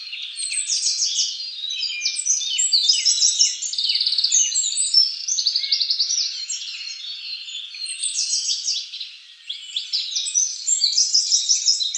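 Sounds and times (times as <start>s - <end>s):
songbirds trilling and chirping: 0.0s - 11.9s.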